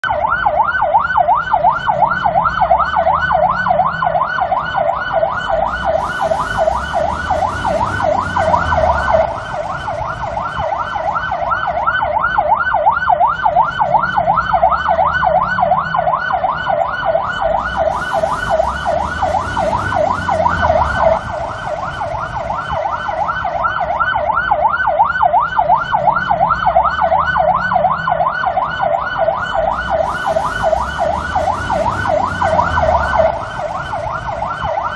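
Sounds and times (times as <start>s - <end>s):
police siren yelping: 0.0s - 34.9s.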